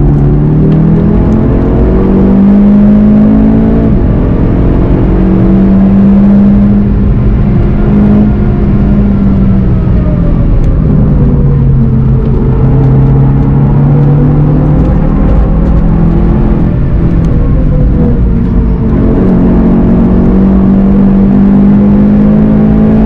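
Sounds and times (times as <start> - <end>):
car engine pulling at high revs: 0.0 - 23.0
road noise: 0.0 - 23.0
wind noise: 0.0 - 23.0.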